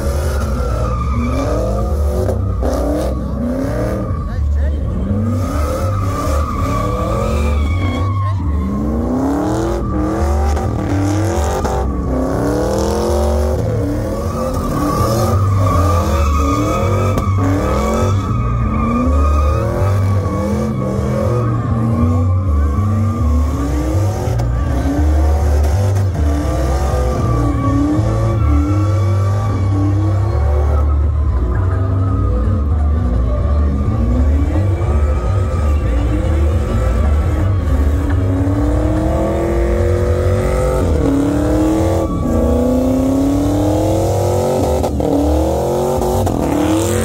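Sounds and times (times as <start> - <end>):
tyre squeal: 0.0 - 25.2, 26.2 - 32.7, 37.2 - 47.0
truck engine revving: 0.0 - 47.0.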